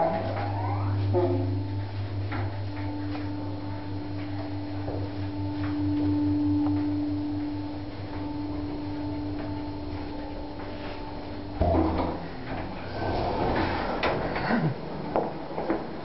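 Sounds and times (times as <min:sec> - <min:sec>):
lift hum with drive tone: 0:00.0 - 0:16.0.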